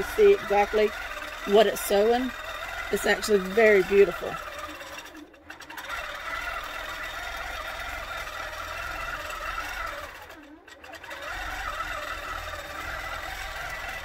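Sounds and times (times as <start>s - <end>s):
quilting machine whine: 0.0s - 14.0s.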